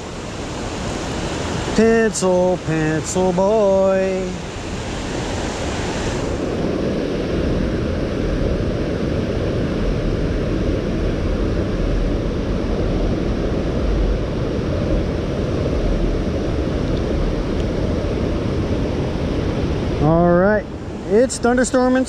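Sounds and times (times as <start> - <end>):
wind buffeting microphone: 4.1 - 22.0.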